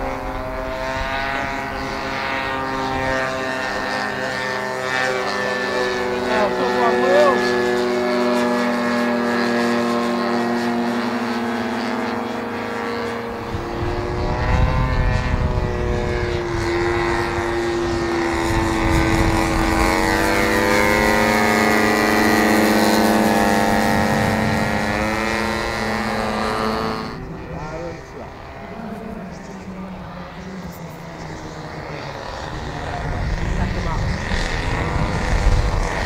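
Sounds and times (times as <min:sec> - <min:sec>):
model plane propeller drone: 0:00.0 - 0:36.0.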